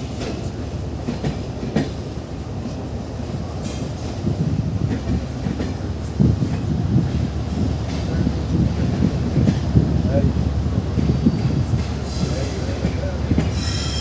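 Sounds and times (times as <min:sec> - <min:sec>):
train rumbling on rails: 0:00.0 - 0:14.0
train wheels clickety-clack: 0:00.0 - 0:14.0.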